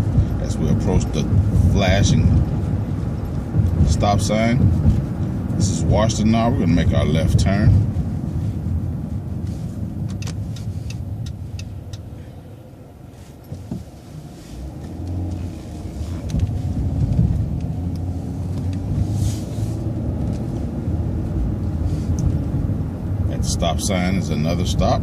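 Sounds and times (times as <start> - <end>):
bus engine idling and accelerating: 0.0 - 25.0.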